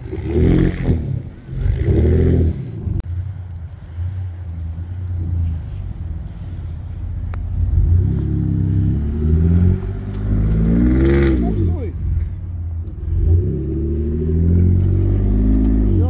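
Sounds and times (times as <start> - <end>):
pickup truck engine revving: 0.0 - 16.0.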